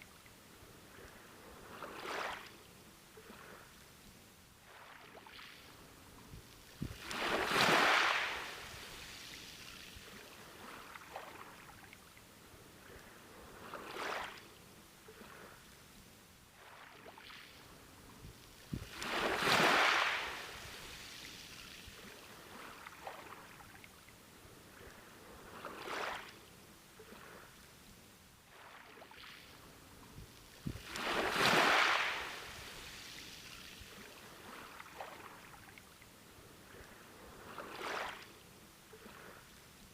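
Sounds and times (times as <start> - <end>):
waves breaking on beach: 0.9 - 2.6, 4.6 - 11.9, 12.6 - 15.7, 16.6 - 23.8, 24.5 - 27.6, 28.5 - 35.8, 36.4 - 39.6.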